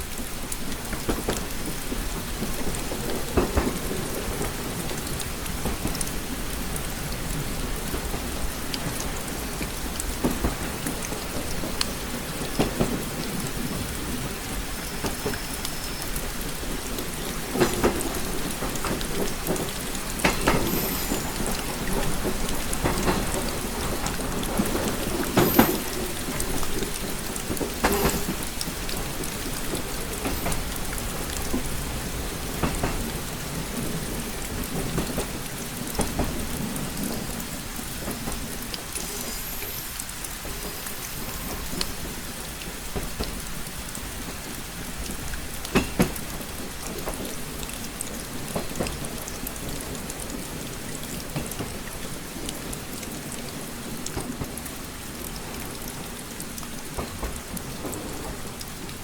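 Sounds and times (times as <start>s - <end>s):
rain pattering on a window: 0.0s - 59.0s.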